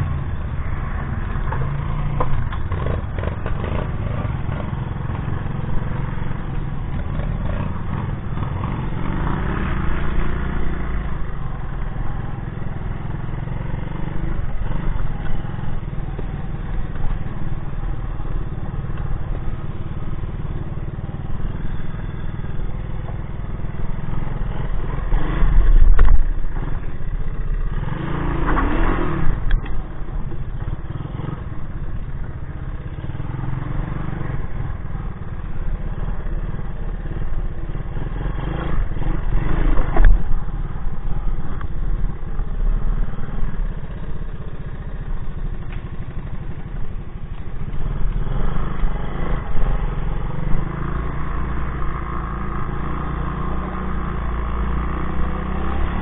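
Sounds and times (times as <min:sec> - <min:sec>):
three-wheeler engine running: 0:00.0 - 0:56.0.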